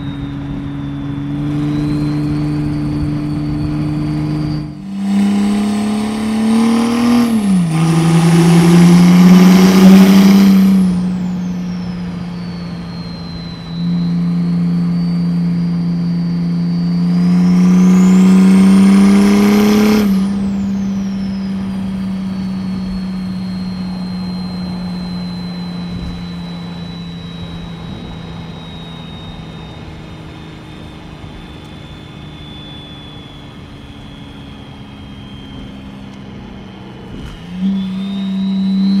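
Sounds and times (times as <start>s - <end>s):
diesel engine pulling hard: 0.0s - 39.0s
high turbo whistle: 0.0s - 39.0s.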